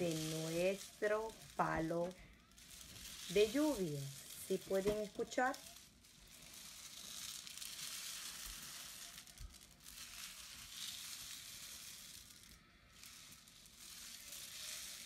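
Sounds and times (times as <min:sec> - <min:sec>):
rain stick rice trickling: 0:00.0 - 0:15.0.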